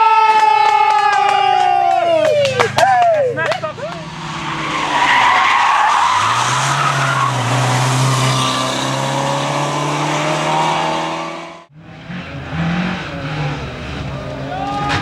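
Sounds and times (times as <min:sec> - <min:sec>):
tyre and road noise: 0:00.5 - 0:15.0
different engine sound: 0:02.1 - 0:14.4.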